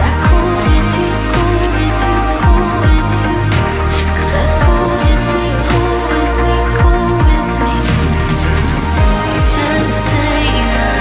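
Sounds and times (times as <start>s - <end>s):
deep bass hits: 0.0s - 11.0s.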